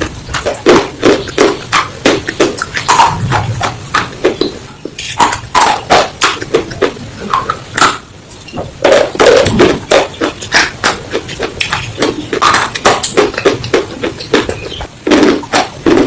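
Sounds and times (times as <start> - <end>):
crunchy chewing at microphone: 0.0 - 16.0.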